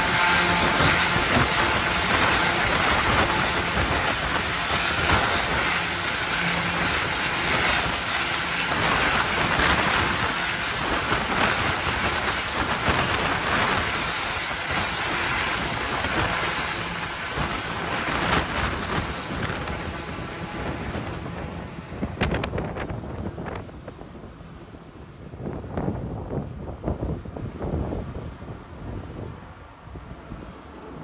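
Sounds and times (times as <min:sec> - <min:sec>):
turboprop engines running: 0:00.0 - 0:31.0.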